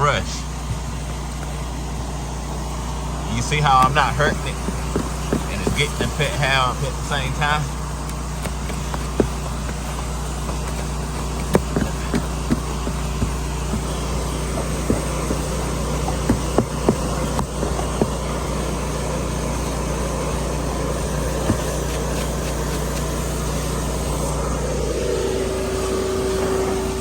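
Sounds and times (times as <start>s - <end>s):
low hum of machines: 0.0s - 27.0s.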